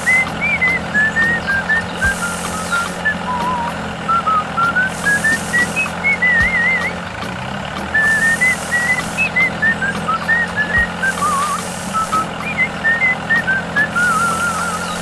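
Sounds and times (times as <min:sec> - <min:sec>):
regular beat: 0:00.0 - 0:15.0
whistled melody music: 0:00.0 - 0:15.0.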